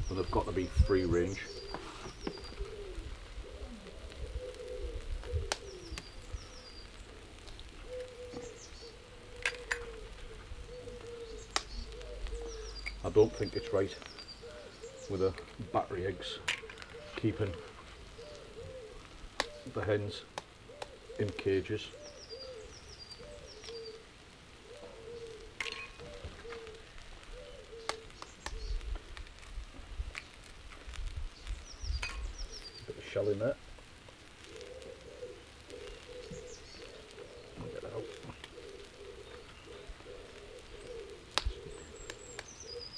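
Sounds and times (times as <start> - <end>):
pigeon cooing: 0.0 - 29.2, 34.4 - 42.9
small birds chirping faintly: 0.0 - 42.9.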